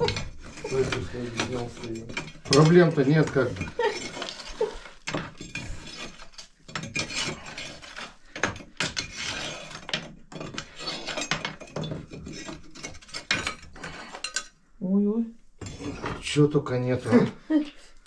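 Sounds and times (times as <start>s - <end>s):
metal scraping and clinking: 0.0s - 14.6s, 15.6s - 17.4s.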